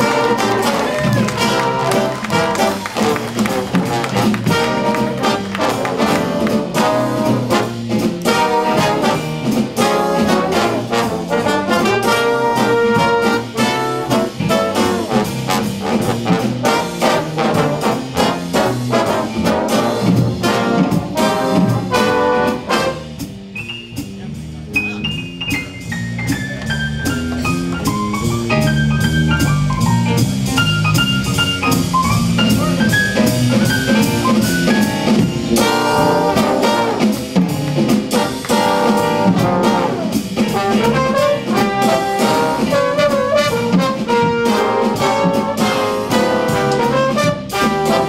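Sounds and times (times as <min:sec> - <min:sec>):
jazz big band playing: 0:00.0 - 0:48.0.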